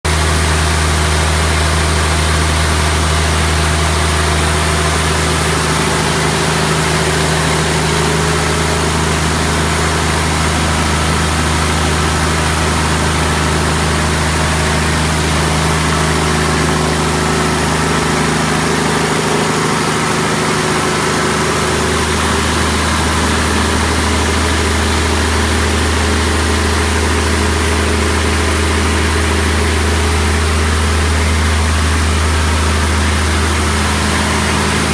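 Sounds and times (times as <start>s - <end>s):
diesel engine droning: 0.1s - 34.9s.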